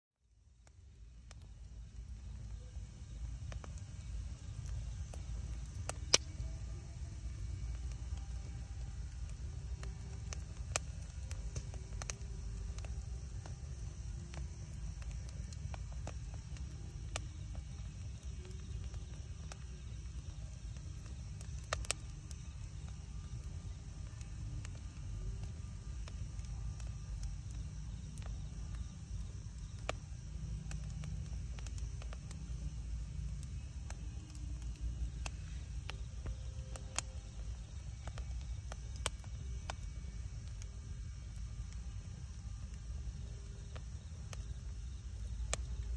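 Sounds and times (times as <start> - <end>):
fire crackles and pops: 0.2 - 45.9
wood fire rumbling: 0.6 - 45.9.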